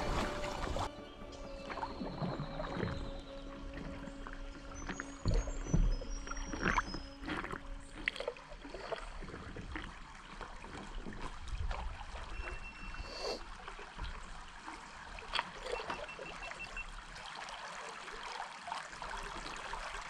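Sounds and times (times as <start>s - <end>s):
paddle splashing water: 0.0s - 20.0s.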